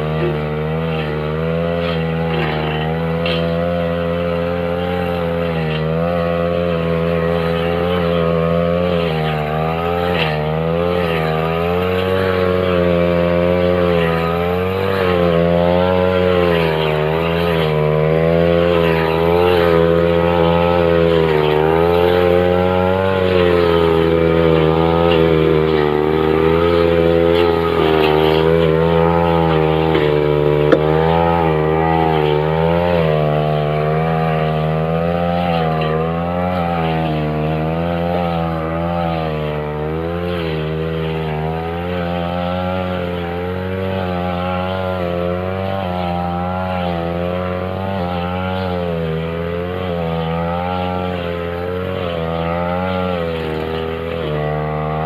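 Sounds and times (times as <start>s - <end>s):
brush cutter cutting grass: 0.0s - 55.0s.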